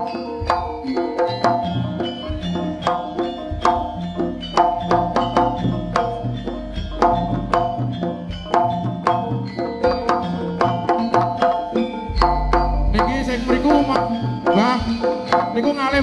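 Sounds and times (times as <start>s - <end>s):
hand drums: 0.0s - 16.0s
ringing gamelan instruments: 0.0s - 16.0s.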